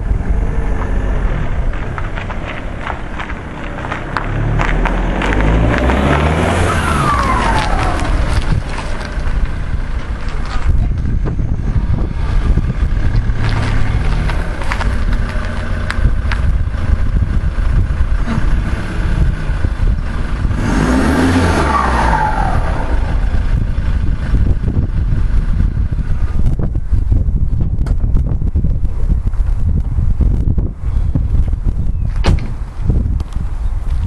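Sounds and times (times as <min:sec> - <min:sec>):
diesel car exhaust revving: 0:00.0 - 0:31.7.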